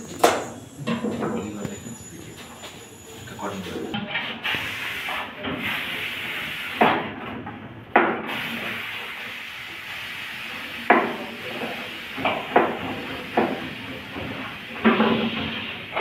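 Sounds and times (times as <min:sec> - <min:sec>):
steady hiss: 0:00.0 - 0:06.9, 0:08.2 - 0:16.0.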